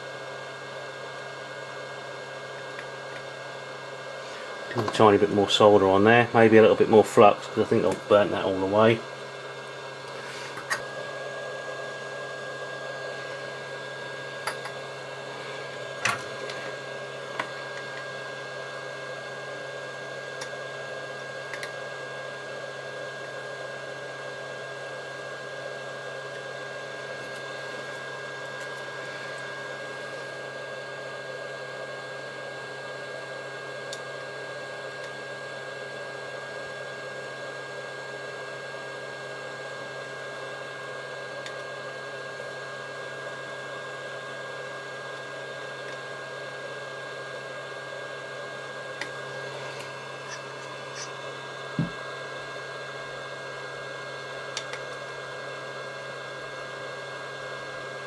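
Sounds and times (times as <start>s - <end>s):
solder station fan hiss: 0.0s - 58.0s
thin steady whine: 0.0s - 58.0s.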